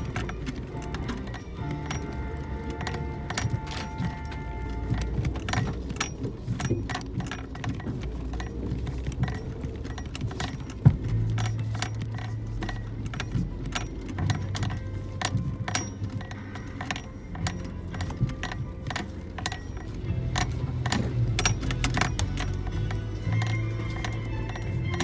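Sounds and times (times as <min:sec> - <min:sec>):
low engine rumble: 0:00.0 - 0:25.0
rattling and clicking: 0:00.0 - 0:25.0.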